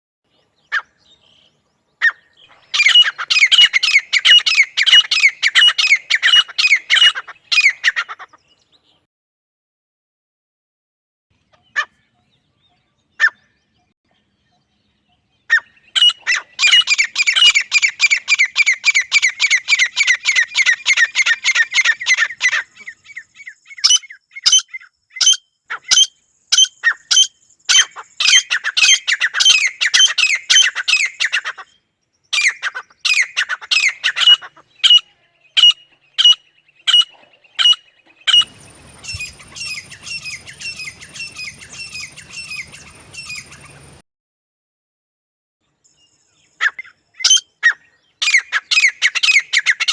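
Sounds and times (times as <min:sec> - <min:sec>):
francolins calling: 0:00.4 - 0:09.0, 0:11.5 - 0:13.9, 0:14.5 - 0:44.0, 0:46.2 - 0:49.9.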